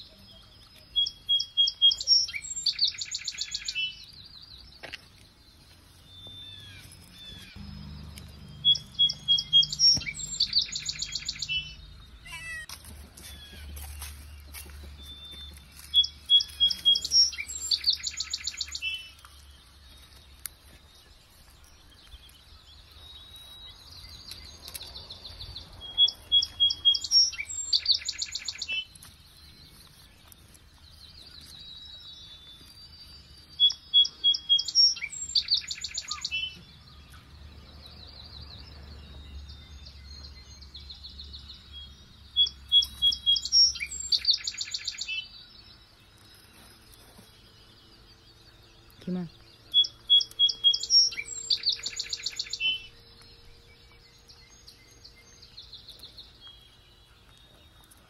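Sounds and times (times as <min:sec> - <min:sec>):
songbird singing with trill: 0:00.0 - 0:58.0.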